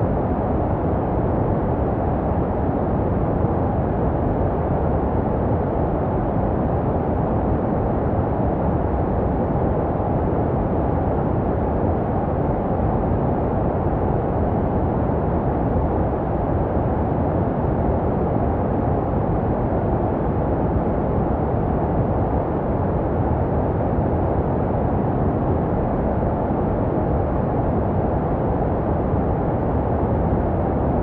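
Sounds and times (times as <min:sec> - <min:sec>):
muffled low white noise: 0:00.0 - 0:31.0.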